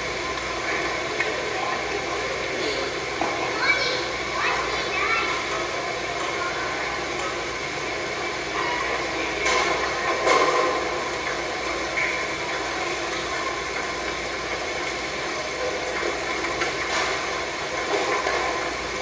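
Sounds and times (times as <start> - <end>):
camcorder hiss and hum: 0.0 - 19.0.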